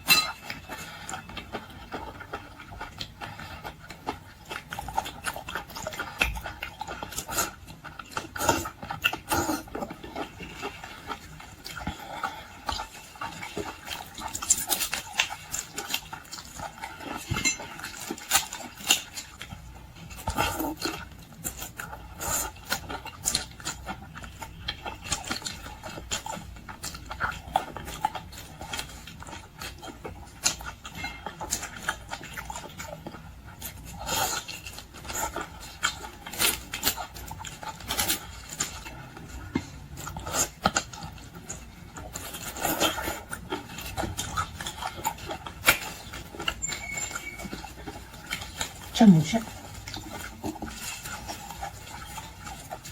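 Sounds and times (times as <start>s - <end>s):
chewing and smacking: 0.0s - 52.9s.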